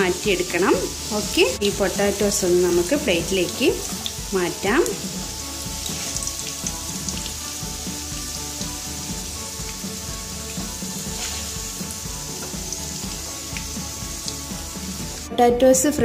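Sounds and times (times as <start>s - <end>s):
potatoes sizzling in oil: 0.0s - 15.4s.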